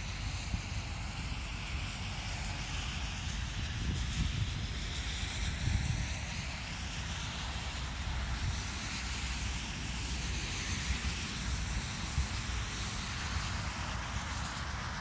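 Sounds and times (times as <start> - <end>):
steady hiss: 0.0 - 15.0
wind buffeting microphone: 0.1 - 15.0.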